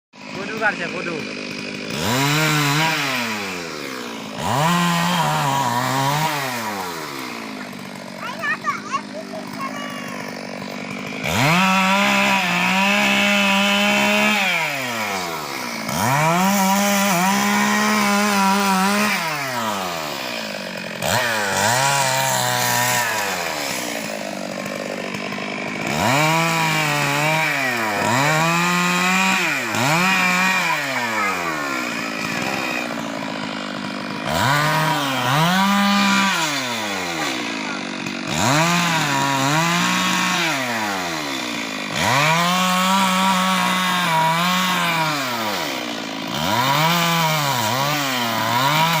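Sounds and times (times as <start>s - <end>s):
chainsaw cutting wood: 0.2s - 49.0s.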